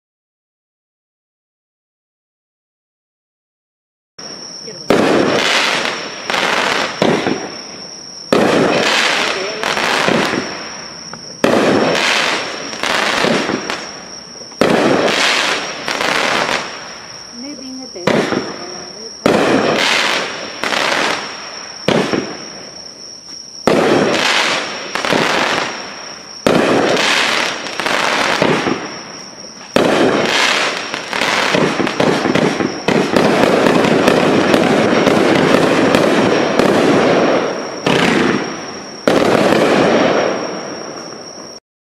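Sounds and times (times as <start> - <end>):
firework crackling: 4.2 - 41.6
firework shots: 4.2 - 41.6.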